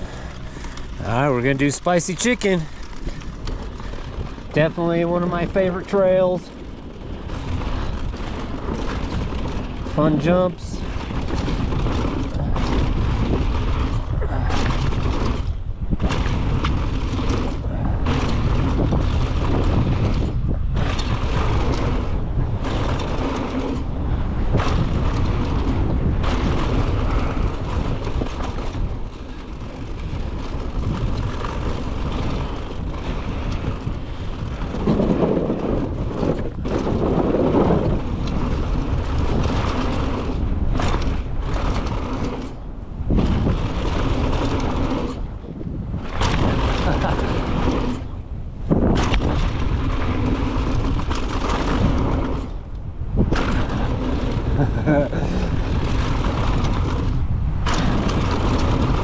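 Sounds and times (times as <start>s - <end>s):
tyres rumbling over dirt trail: 0.0s - 59.0s
wind buffeting microphone: 0.0s - 59.0s.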